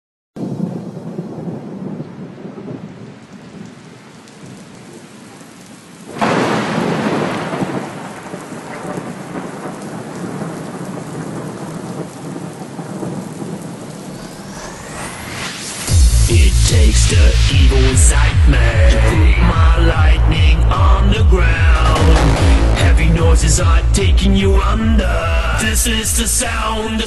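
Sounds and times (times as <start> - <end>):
loud thunderclap: 0.4 - 3.7, 6.1 - 26.6
low rumbling thunder: 0.4 - 4.6, 6.1 - 25.6
steady rain: 0.4 - 27.0.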